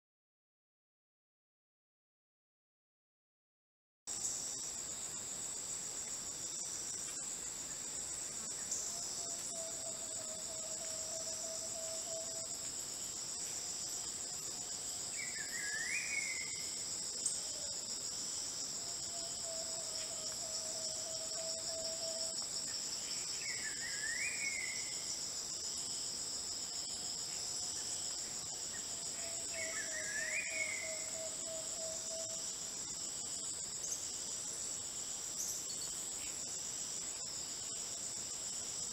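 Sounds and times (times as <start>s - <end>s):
insects droning: 4.1s - 38.9s.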